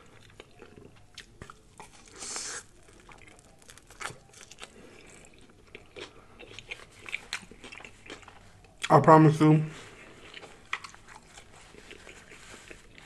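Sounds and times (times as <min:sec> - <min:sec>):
crunch of biting pizza: 0:00.0 - 0:08.8, 0:10.0 - 0:13.0
person chewing with smacks: 0:00.0 - 0:09.0, 0:09.9 - 0:13.0.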